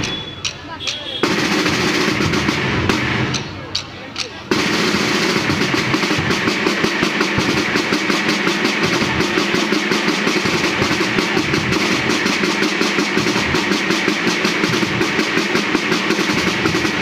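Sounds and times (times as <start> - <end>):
marching drum band: 0.0 - 17.0.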